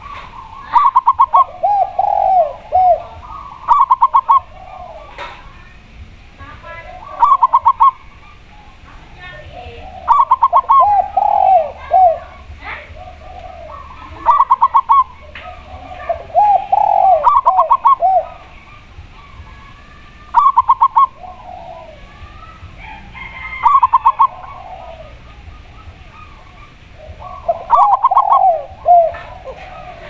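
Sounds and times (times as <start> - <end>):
doves cooing: 0.0 - 30.0.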